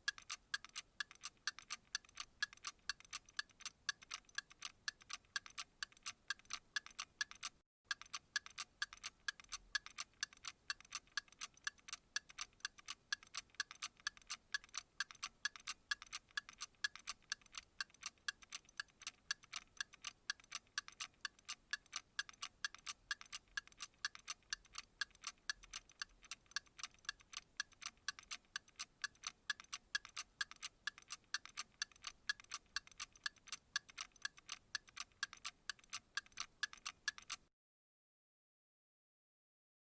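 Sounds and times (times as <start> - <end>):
clock ticking: 0.0 - 37.4.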